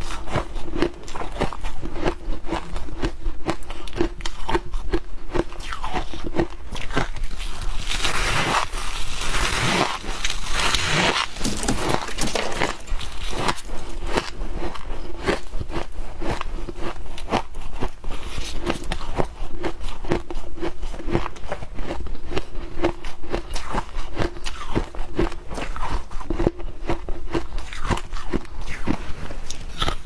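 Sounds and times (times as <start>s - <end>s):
ice being chewed and crunched: 0.0s - 30.0s.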